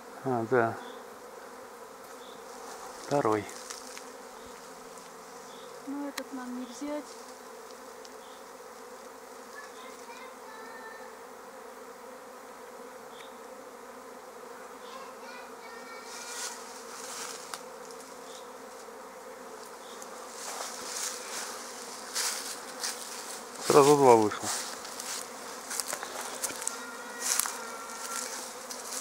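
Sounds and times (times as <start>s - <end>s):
swarm of bees humming: 0.0s - 29.0s.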